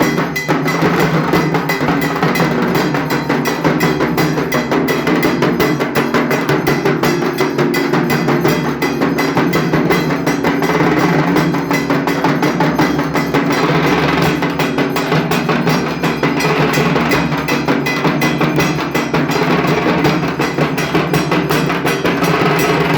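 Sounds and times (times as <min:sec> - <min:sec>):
drum beaten with sticks: 0:00.0 - 0:22.9.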